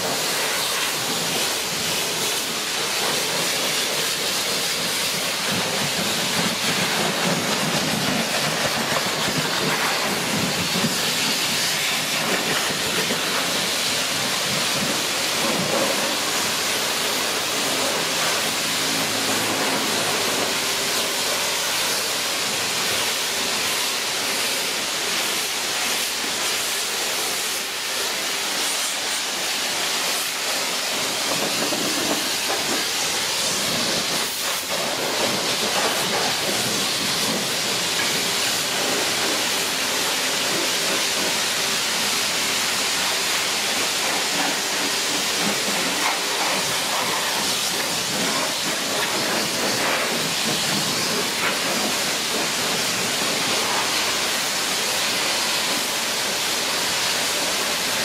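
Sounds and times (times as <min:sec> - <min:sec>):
pressure washer spraying water: 0:00.0 - 0:58.0.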